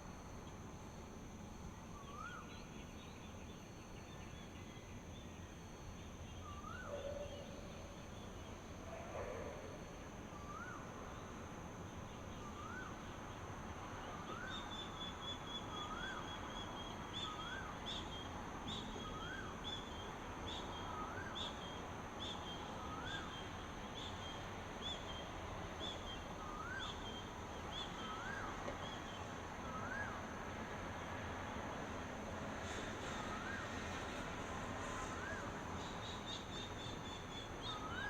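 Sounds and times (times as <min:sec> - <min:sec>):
background hiss: 0:00.0 - 0:38.0
constant high hum: 0:00.0 - 0:38.0.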